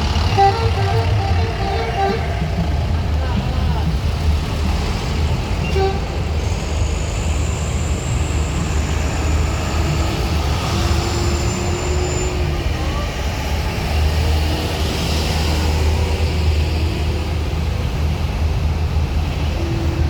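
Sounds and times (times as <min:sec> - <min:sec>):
heavy vehicle engines rumbling: 0:00.0 - 0:20.0.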